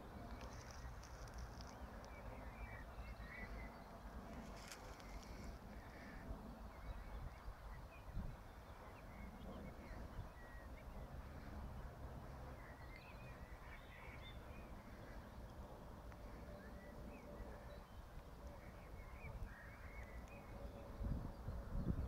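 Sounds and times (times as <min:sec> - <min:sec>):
faint bird calls: 0:00.3 - 0:21.0.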